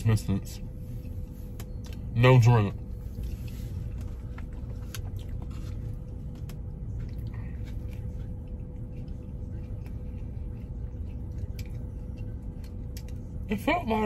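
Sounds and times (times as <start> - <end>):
low hum in car cabin: 0.0 - 14.0
person chewing a burger: 0.6 - 13.5.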